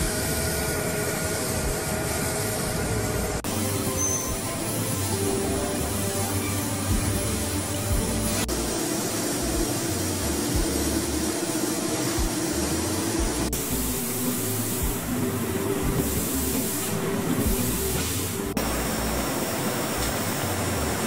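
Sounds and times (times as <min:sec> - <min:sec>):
machinery running: 0:00.0 - 0:21.0
steady hiss: 0:00.0 - 0:21.0.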